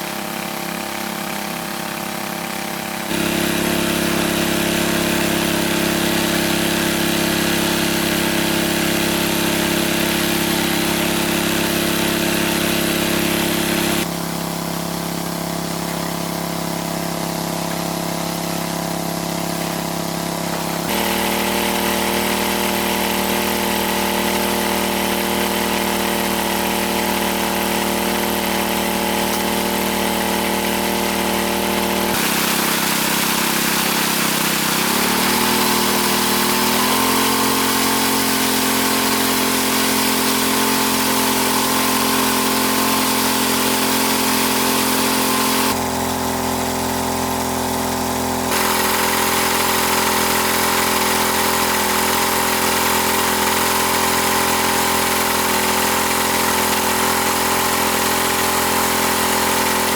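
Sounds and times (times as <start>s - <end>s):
motor humming: 0.0s - 59.9s.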